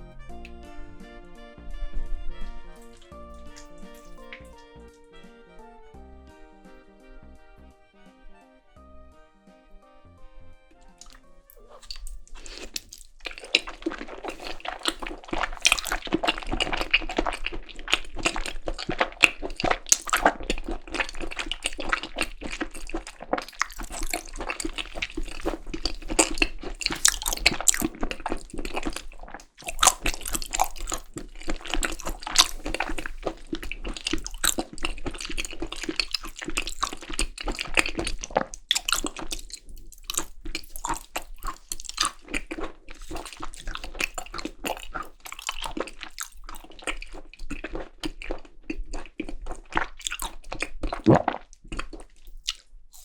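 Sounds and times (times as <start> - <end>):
wet chewing mouth sounds: 2.0 - 4.9, 10.8 - 53.0.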